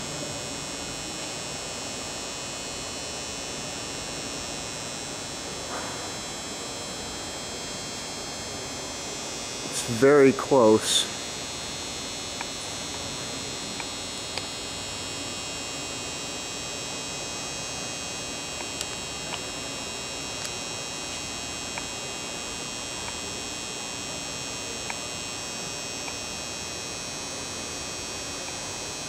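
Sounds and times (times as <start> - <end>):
electrical hum with high whine: 0.0 - 29.0.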